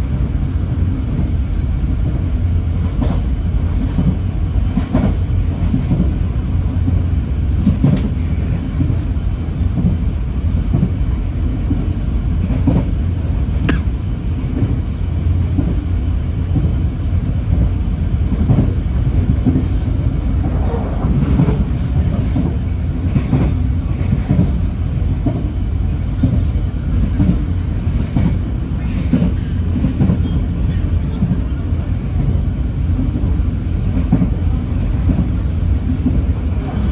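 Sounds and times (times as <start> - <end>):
train low rumble: 0.0 - 36.9.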